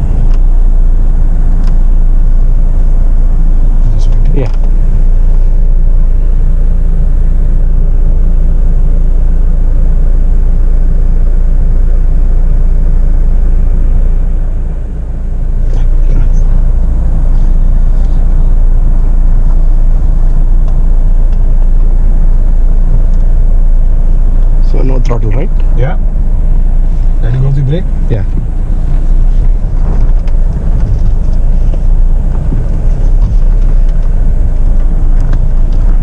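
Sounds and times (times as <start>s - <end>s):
diesel engine idling: 0.0s - 36.0s.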